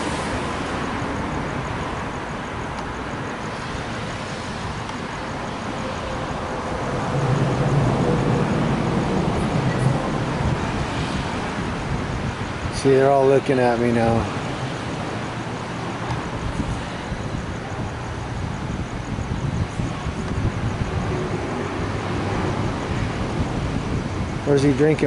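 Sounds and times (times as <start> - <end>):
traffic hiss on wet road: 0.0 - 25.0
vehicle passing with low rumble: 2.9 - 25.0.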